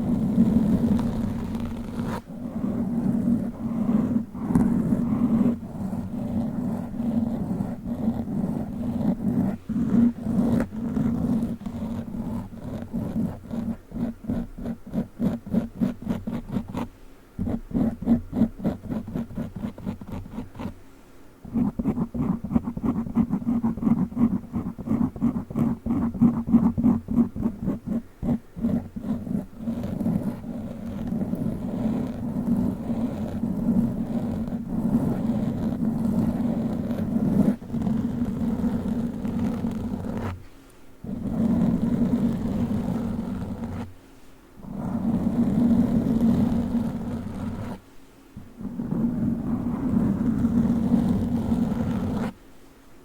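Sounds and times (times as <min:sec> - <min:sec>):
fingertip scratching microphone cover: 0:00.0 - 0:20.8, 0:21.4 - 0:44.0, 0:44.6 - 0:52.4.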